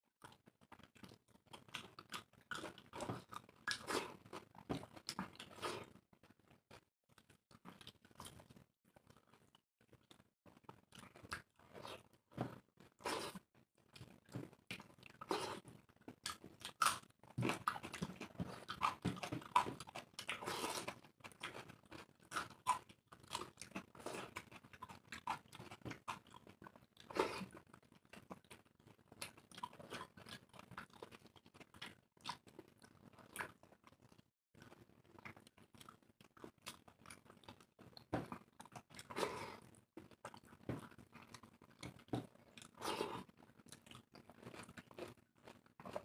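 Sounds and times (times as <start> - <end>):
wet chewing: 0.2 - 46.0.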